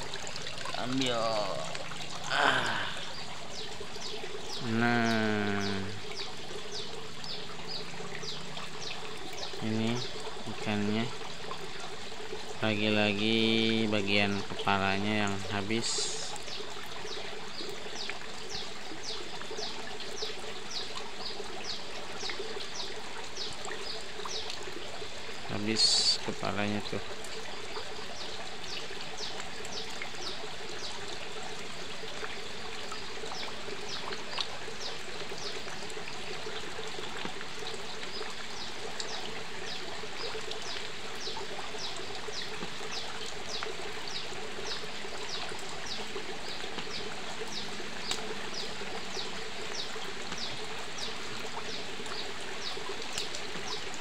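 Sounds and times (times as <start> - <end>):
water trickling into pond: 0.0 - 54.0.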